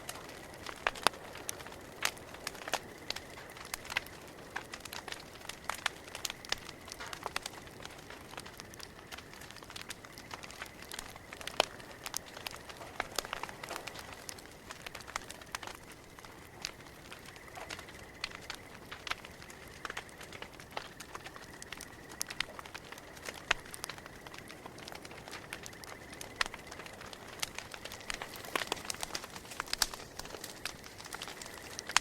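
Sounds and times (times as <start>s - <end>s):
burning wood pops and snaps: 0.0s - 32.0s
campfire crackling: 0.0s - 32.0s
soft steady hiss: 0.0s - 32.0s.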